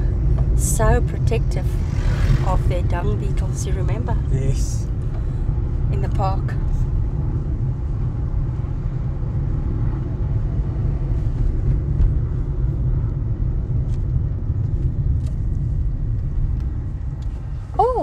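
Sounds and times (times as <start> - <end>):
car driving on paved road: 0.0 - 18.0.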